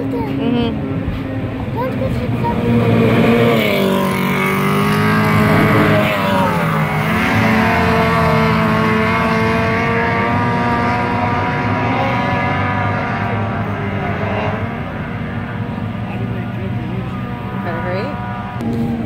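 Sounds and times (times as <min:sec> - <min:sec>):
racing outboard motor: 0:00.0 - 0:19.0.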